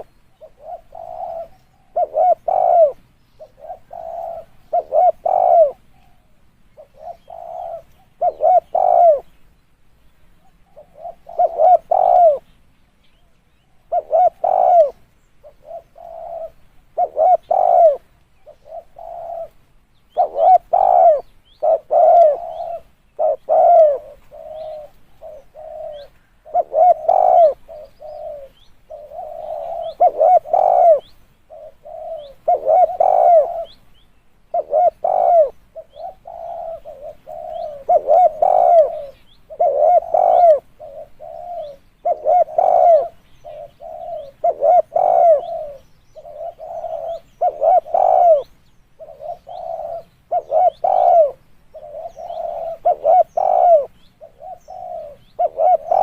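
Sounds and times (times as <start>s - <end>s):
dove cooing: 0.0s - 9.5s, 10.4s - 12.6s, 13.2s - 33.8s, 34.4s - 56.0s.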